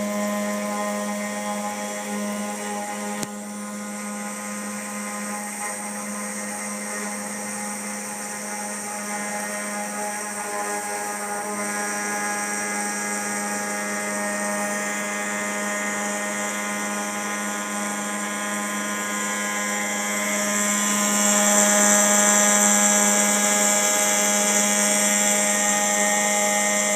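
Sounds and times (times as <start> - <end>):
machine spindle whining while cutting: 0.0 - 26.9.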